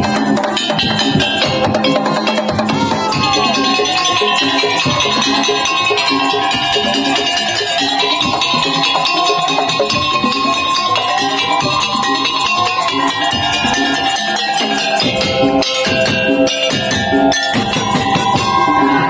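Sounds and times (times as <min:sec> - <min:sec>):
long-held high melody: 0:00.0 - 0:19.0
rhythmic percussion: 0:00.0 - 0:19.0.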